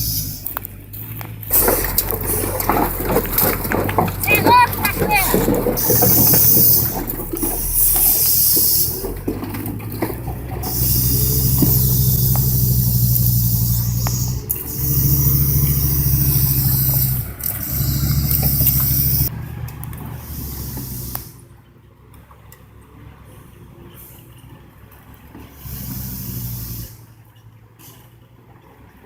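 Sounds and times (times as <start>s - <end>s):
heavy vehicle engine working hard: 0.0s - 29.0s.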